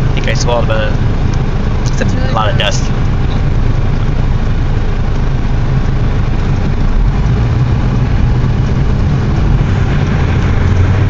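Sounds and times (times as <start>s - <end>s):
car engine rumble from inside: 0.0s - 11.0s.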